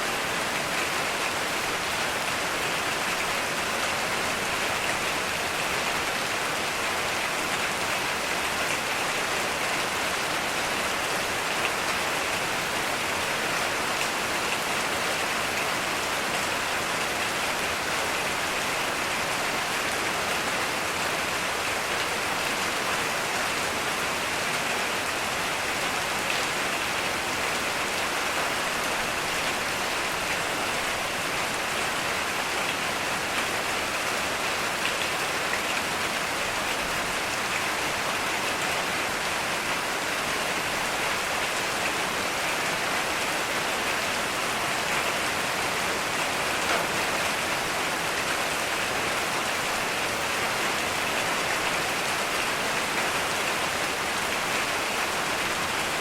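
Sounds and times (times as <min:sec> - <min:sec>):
heavy rain on ground and foliage: 0:00.0 - 0:56.0.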